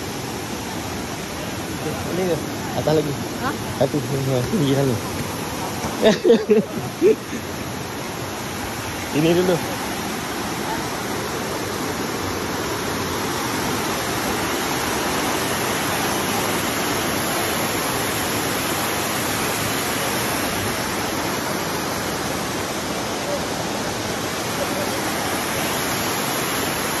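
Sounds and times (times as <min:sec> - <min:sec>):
water rushing down waterfall: 0:00.0 - 0:27.0.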